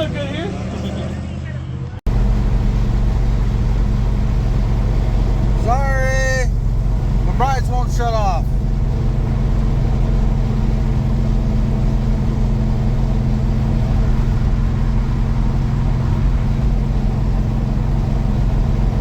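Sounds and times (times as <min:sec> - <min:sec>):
car engine cruising: 0:00.0 - 0:19.0
road noise: 0:00.0 - 0:19.0.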